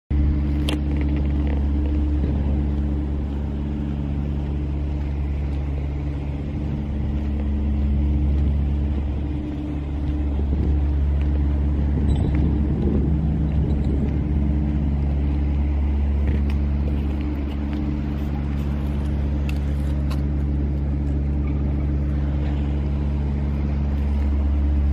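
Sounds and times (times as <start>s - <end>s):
low mechanical hum: 0.1s - 24.9s.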